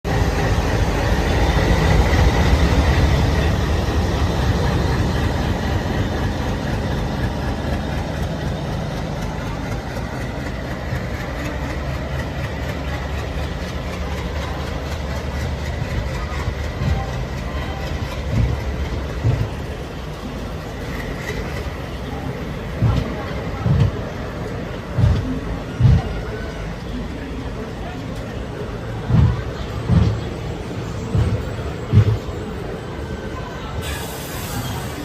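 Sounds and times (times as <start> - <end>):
diesel locomotive engine rumble: 0.0 - 35.0.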